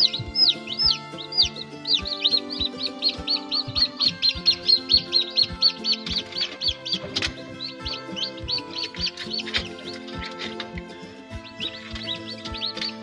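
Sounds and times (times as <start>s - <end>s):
background music with a beat: 0.0s - 13.0s
chicks peeping: 0.0s - 13.0s.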